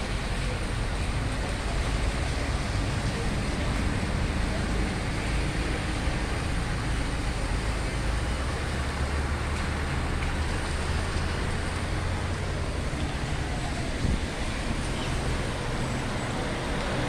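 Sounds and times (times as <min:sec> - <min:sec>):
traffic on a wet road: 0:00.0 - 0:17.0.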